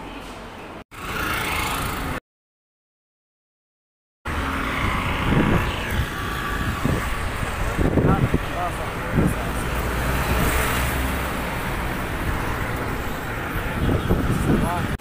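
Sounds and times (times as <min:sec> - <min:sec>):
vehicle rumbling on a street: 0:00.0 - 0:02.2, 0:04.3 - 0:15.0.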